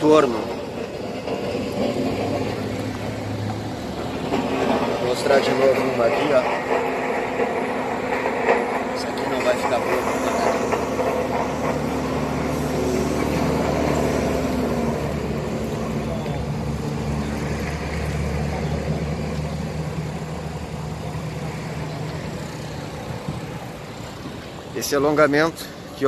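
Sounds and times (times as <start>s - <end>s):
heavy machinery engine droning: 0.0s - 26.0s.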